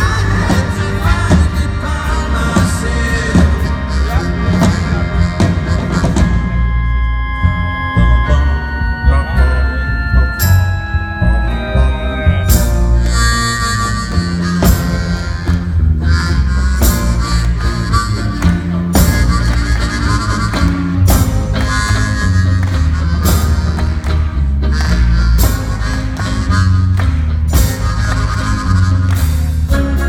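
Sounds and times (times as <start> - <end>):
bass harmonica: 0.0 - 30.0
low bass notes: 0.0 - 30.0
percussion hits: 0.0 - 30.0.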